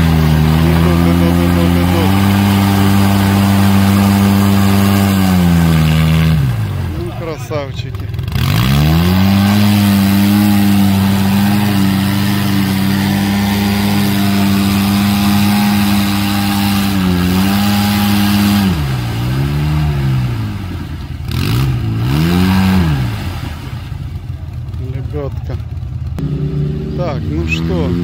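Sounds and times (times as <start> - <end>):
engine revving hard: 0.0 - 24.2, 26.2 - 28.0.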